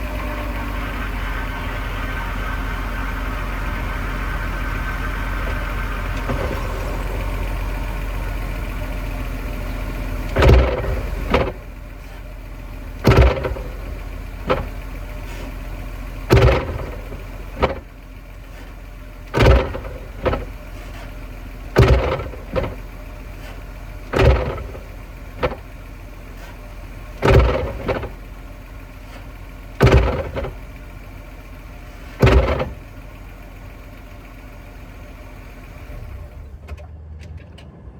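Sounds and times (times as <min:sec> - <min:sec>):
drivetrain clunking: 0:00.0 - 0:36.9
car engine running: 0:00.0 - 0:37.6.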